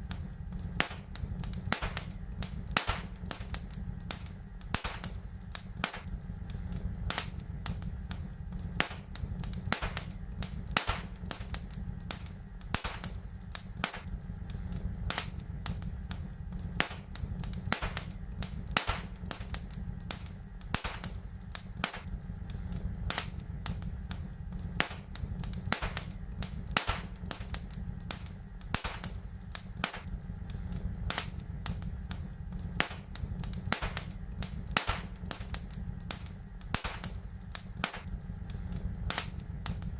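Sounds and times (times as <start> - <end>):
fire crackling and popping: 0.0 - 39.9
low background noise: 0.0 - 39.9.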